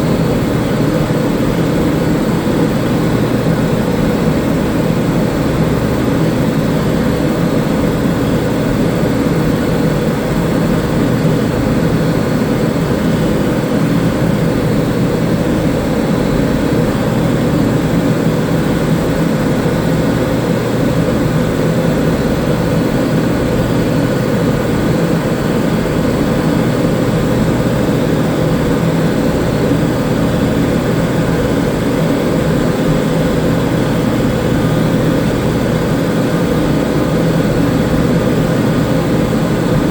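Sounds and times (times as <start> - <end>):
mechanical drone with low hum: 0.0 - 39.9.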